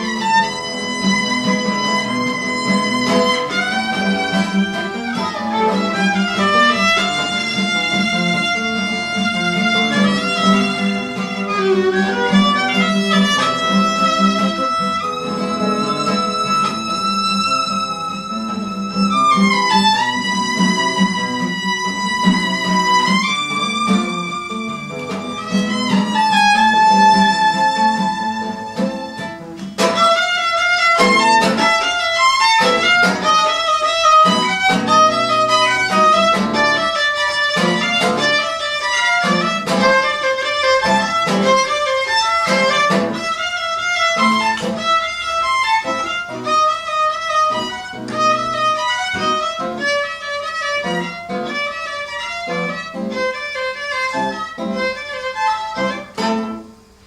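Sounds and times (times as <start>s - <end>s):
musical accompaniment: 0.0s - 57.0s
violin melody: 0.0s - 57.0s.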